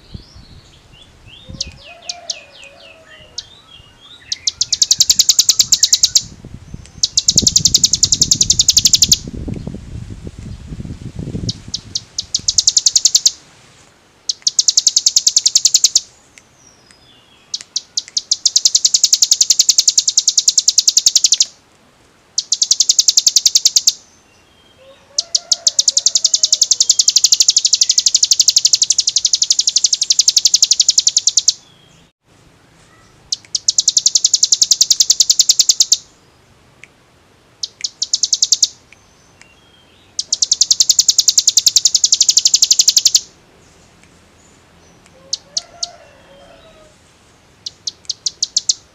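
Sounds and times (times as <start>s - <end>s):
bird singing rapid trill: 0.0s - 9.3s, 11.4s - 13.4s, 14.3s - 21.6s, 22.4s - 32.1s, 33.0s - 36.5s, 37.6s - 46.0s, 47.6s - 48.9s.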